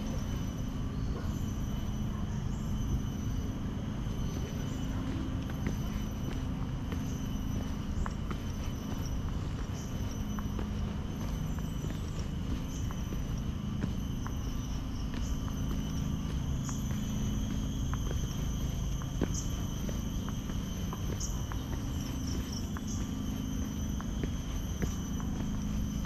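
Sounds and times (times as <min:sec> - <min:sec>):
bright insect chirp: 0:00.0 - 0:26.0
footsteps on stone path: 0:00.0 - 0:26.0
high insect chorus: 0:00.0 - 0:26.0.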